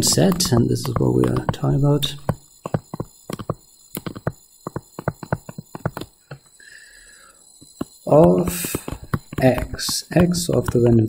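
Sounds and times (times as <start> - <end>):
stylus tapping on tablet screen: 0.0 - 6.4, 7.7 - 11.0.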